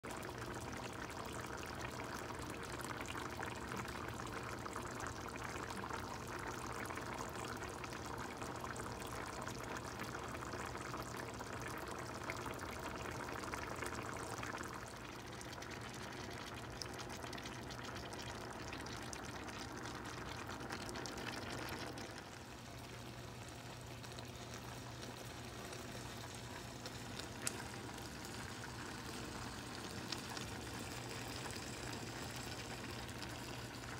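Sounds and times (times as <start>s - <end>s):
sauce bubbling in a pan: 0.0s - 33.9s.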